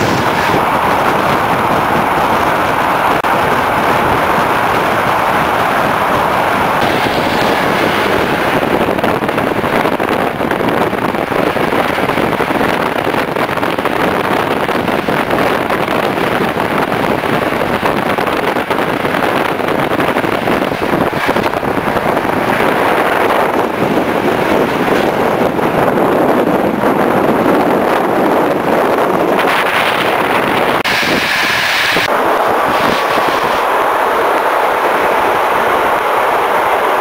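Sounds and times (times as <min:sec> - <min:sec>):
train wheels on rails: 0:00.0 - 0:37.0
wind rushing over microphone: 0:00.0 - 0:37.0.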